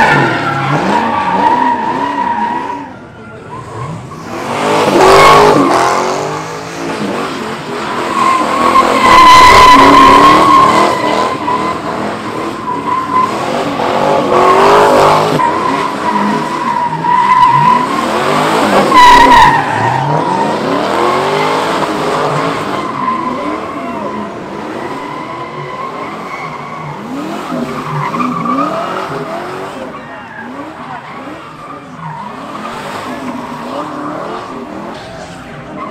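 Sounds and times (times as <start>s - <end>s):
car engines revving: 0.0s - 35.9s
tire squeal: 0.0s - 35.9s.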